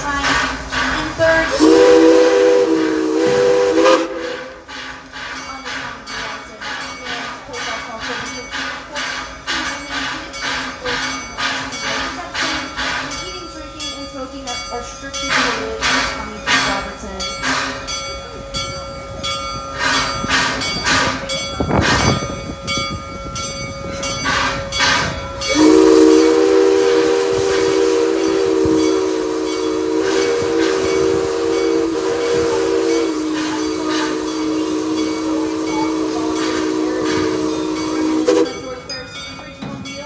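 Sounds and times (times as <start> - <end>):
steam locomotive hissing: 0.0 - 40.0
train chime whistle: 0.0 - 40.0.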